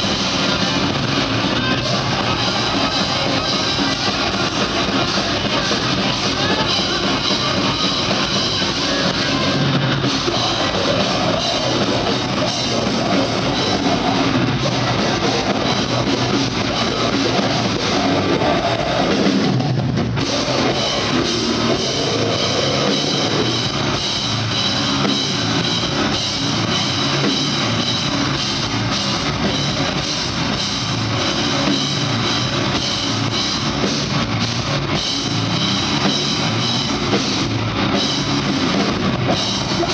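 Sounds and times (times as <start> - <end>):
bass guitar: 0.0 - 39.9
distorted electric guitar: 0.0 - 39.9
fast drums and cymbals: 0.0 - 39.9.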